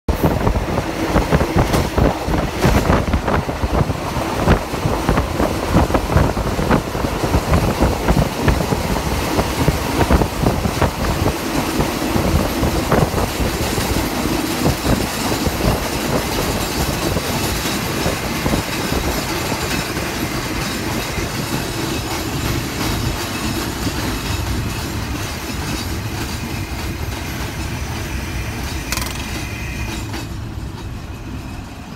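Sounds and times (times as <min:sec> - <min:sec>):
rushing air: 0:00.1 - 0:28.1
low train rumble: 0:00.1 - 0:31.9
train wheels clattering on rails: 0:00.1 - 0:31.9.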